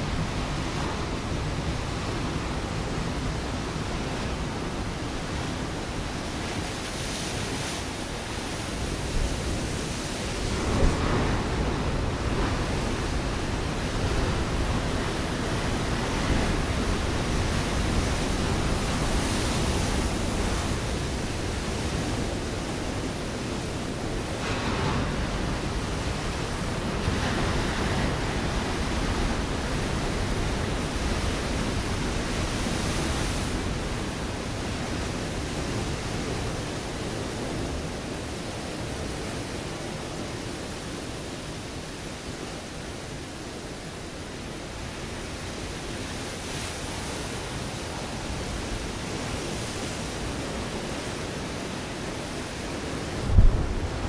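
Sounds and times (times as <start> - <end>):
waves breaking on rocky shore: 0.0 - 54.0.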